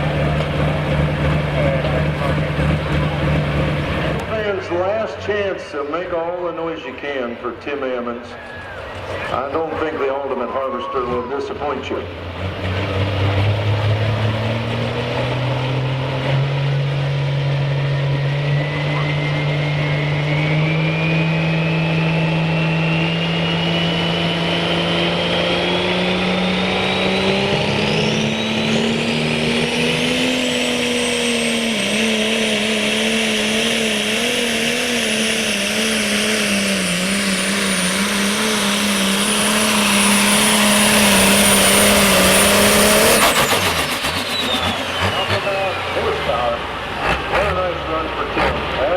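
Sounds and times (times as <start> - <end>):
tractor engine running flat out: 0.0 - 7.2, 8.2 - 48.9
turbocharger whine: 0.0 - 7.2, 8.2 - 48.9.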